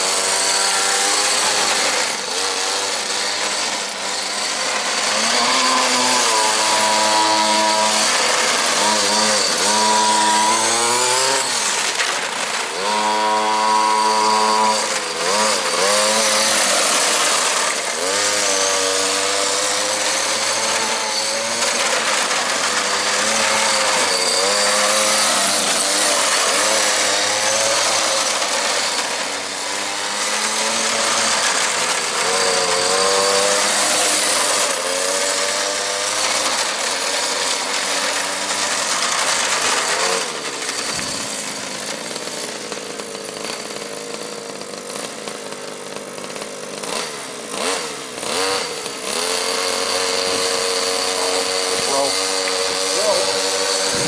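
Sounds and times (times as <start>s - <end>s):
small two-stroke engine revving: 0.0s - 54.0s.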